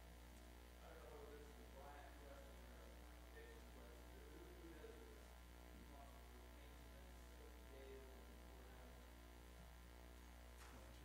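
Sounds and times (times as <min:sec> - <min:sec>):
low electrical mains hum: 0:00.0 - 0:11.0.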